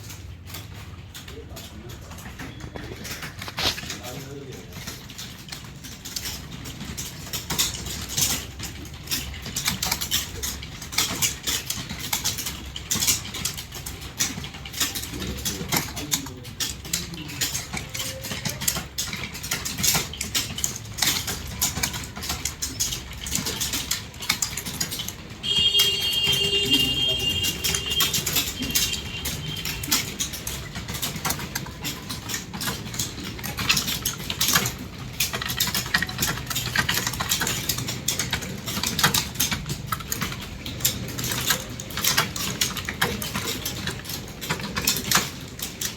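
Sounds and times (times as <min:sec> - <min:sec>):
keyboard typing: 0:00.0 - 0:45.9.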